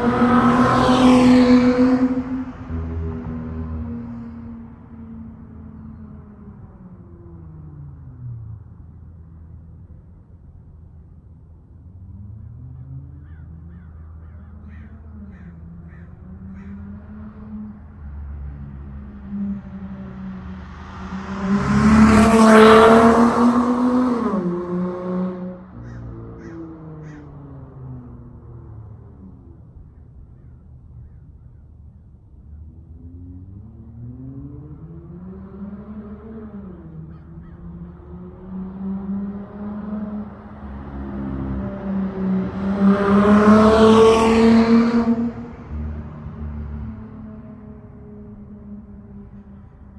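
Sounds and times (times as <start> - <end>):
car driving past: 0.0 - 10.2, 11.7 - 31.6, 32.3 - 49.9.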